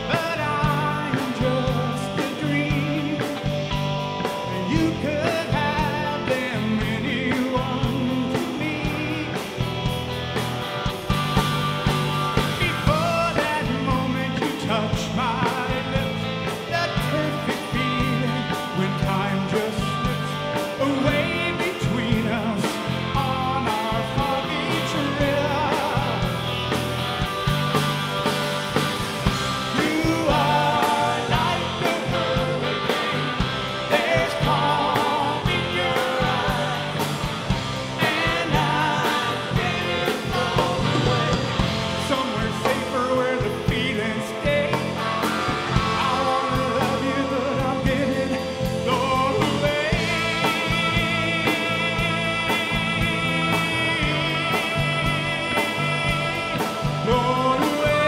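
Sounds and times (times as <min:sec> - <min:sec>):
man singing: 0:00.0 - 0:09.9, 0:12.3 - 0:26.8, 0:29.2 - 0:58.0
distorted electric guitars: 0:00.0 - 0:58.0
drums: 0:00.0 - 0:58.0.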